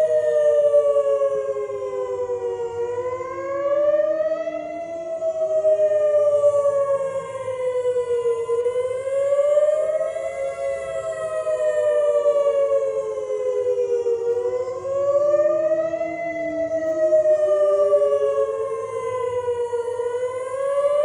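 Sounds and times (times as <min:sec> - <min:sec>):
warning sirens wailing: 0:00.0 - 0:21.0.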